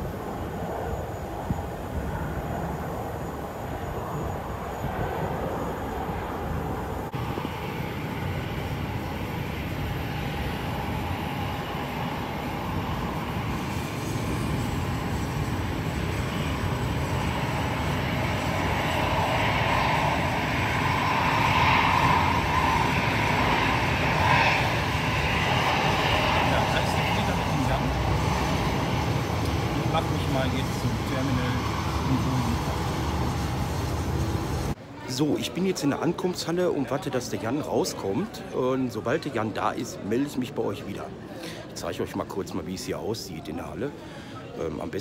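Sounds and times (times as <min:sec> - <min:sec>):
jet engines droning: 0:00.0 - 0:45.0.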